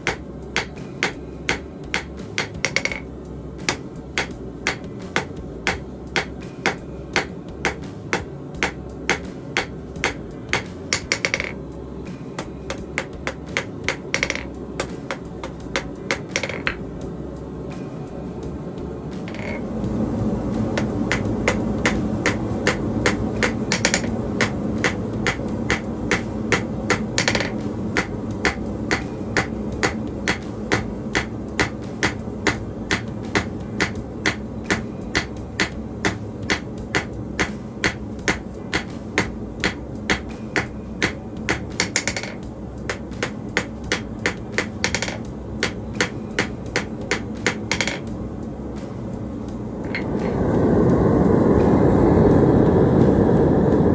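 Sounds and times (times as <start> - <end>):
hammer striking metal on anvil: 0.0 - 11.6, 12.4 - 16.8, 19.3 - 19.6, 20.8 - 48.1
low rumble: 0.0 - 41.5, 48.0 - 53.9.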